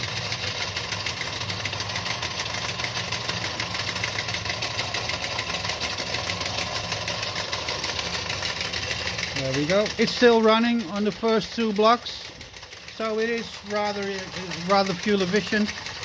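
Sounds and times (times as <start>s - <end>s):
toy steam engine running: 0.0s - 16.0s.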